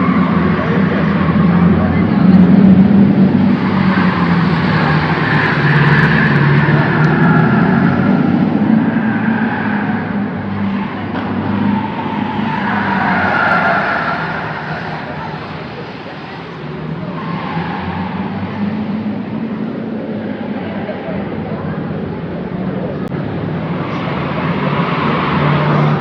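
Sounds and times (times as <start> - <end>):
car engine hum: 0.0 - 26.0
road and tyre noise: 0.0 - 26.0.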